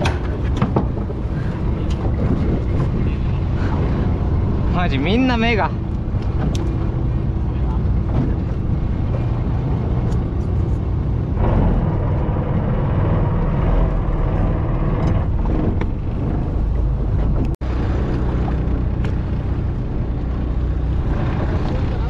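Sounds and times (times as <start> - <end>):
boat engine running: 0.0 - 22.0
wind on microphone: 0.0 - 22.0.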